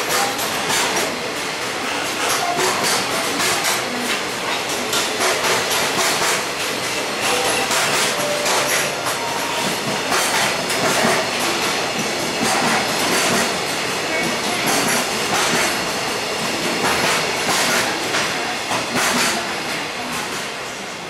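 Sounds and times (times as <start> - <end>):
freight train wheels clacking: 0.0 - 21.0.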